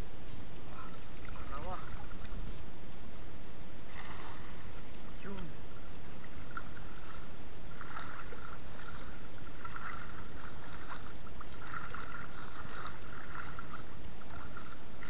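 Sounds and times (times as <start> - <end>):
water sloshing around wading legs: 0.6 - 2.7, 3.8 - 15.0
water splashing: 0.7 - 2.7, 3.8 - 15.0.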